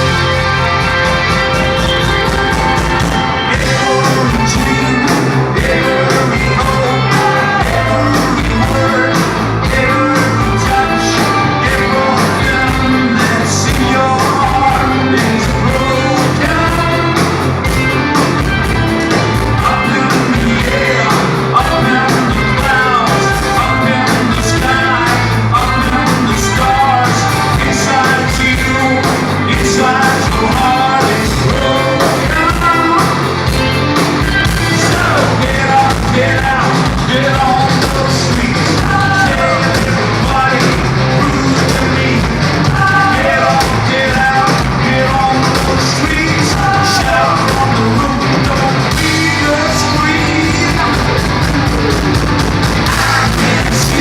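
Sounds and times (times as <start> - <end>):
bass guitar: 0.0 - 54.0
drums: 0.0 - 54.0
electric guitars: 0.0 - 54.0
person singing: 0.0 - 54.0.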